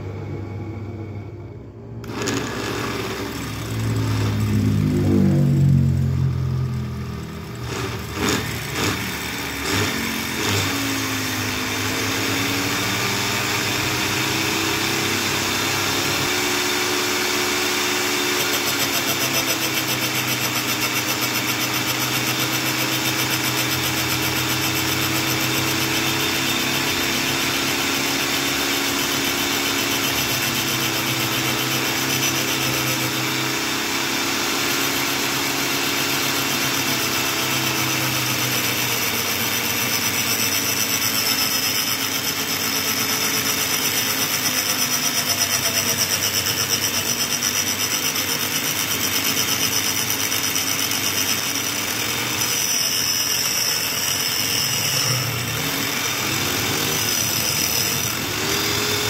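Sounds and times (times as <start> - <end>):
lathe motor humming: 2.0 - 5.2, 6.6 - 59.0.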